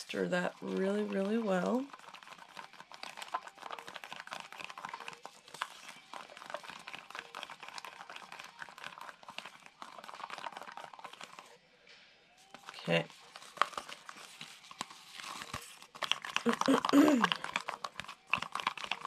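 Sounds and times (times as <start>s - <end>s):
stick scraping plastic cup: 0.0s - 11.5s, 12.6s - 19.0s.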